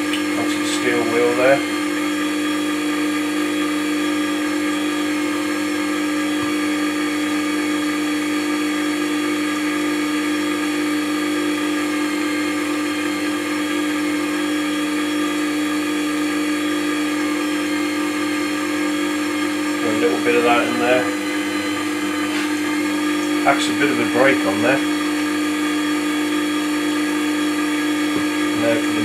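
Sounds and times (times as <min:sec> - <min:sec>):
electric motor humming: 0:00.0 - 0:29.0
faint motor whine: 0:00.0 - 0:29.0.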